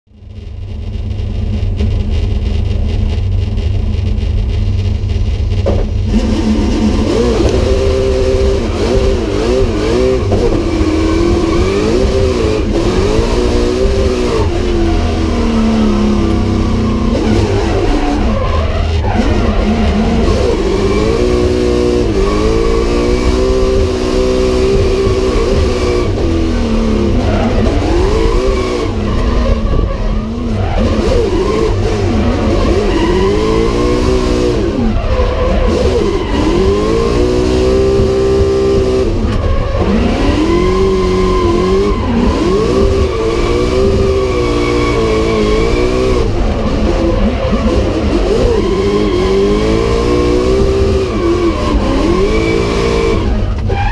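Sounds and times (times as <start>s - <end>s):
car engine revving hard: 5.7s - 53.9s.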